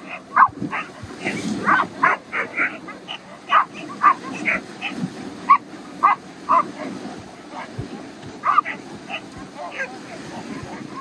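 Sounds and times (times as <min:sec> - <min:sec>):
sled dogs barking and yipping: 0:00.0 - 0:11.0.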